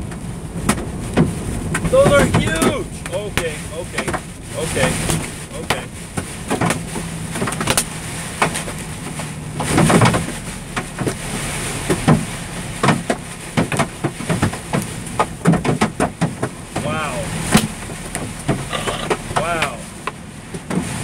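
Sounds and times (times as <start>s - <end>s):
hailstones knocking on truck: 0.0s - 8.8s, 11.8s - 21.0s
truck engine hum: 0.0s - 21.0s.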